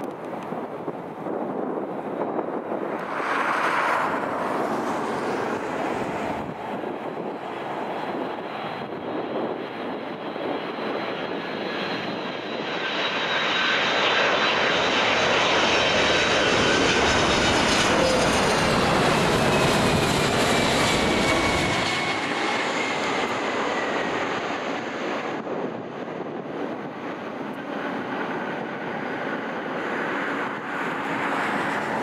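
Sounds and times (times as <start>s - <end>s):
jet airliner flying past: 0.0s - 32.0s.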